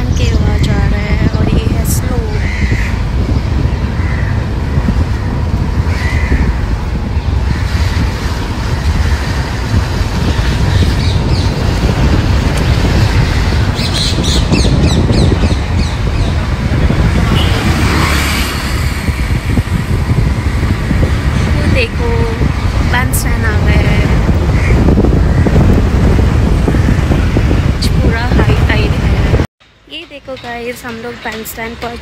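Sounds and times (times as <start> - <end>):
motorbike rumble: 0.0 - 32.0
wind buffeting microphone: 0.0 - 32.0.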